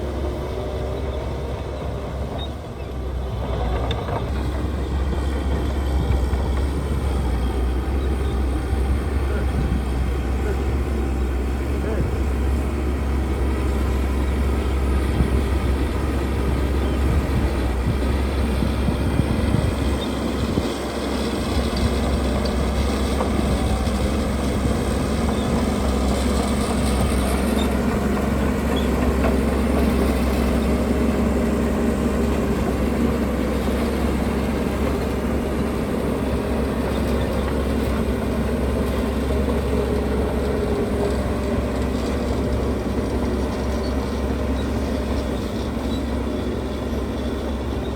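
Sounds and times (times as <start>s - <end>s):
heavy diesel machinery rumbling: 0.0s - 47.9s.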